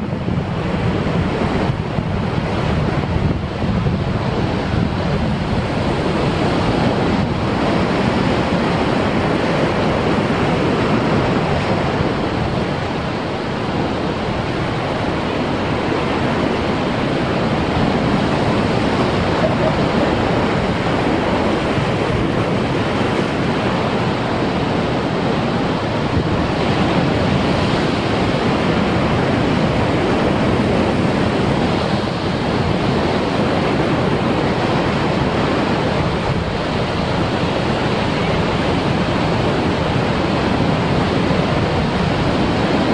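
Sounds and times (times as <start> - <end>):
surf breaking on rocks: 0.4 - 42.9.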